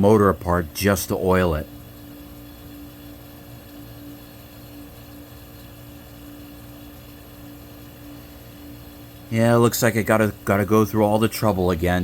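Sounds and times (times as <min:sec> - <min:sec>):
dehumidifier humming: 0:00.0 - 0:12.0.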